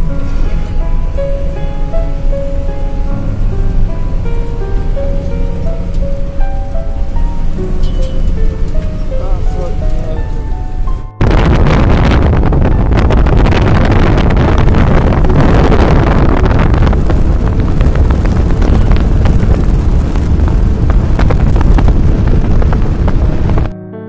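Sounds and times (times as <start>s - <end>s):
motorbike running: 0.0s - 23.7s
wind buffeting microphone: 0.0s - 23.7s.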